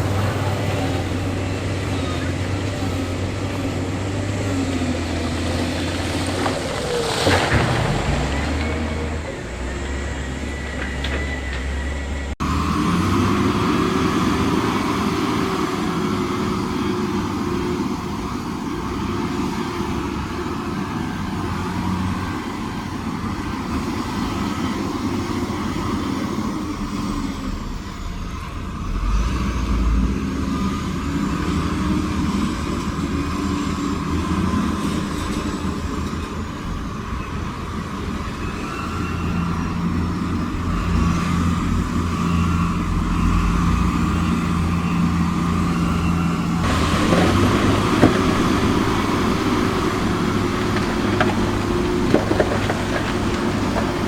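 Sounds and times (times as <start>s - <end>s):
heavy diesel machinery working: 0.0s - 54.0s.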